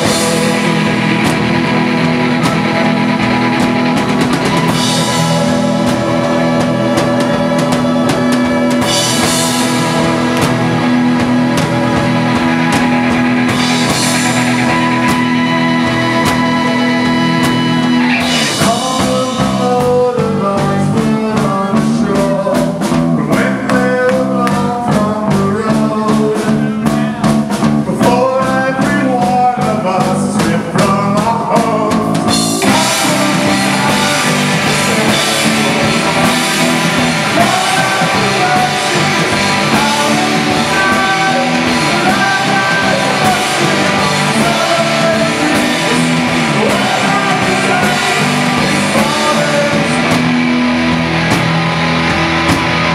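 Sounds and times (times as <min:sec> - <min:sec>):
man singing: 0:00.0 - 0:50.6
drum kit: 0:00.0 - 0:52.9
electric bass: 0:00.0 - 0:52.9
electric guitar: 0:00.0 - 0:52.9.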